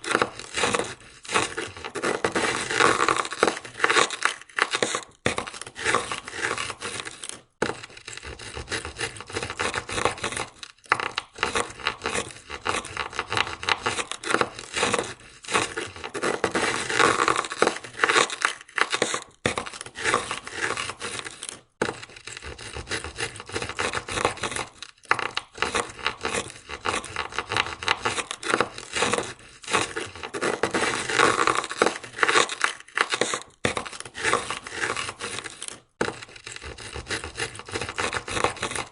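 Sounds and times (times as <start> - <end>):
ice scraper scraping window: 0.0 - 38.9.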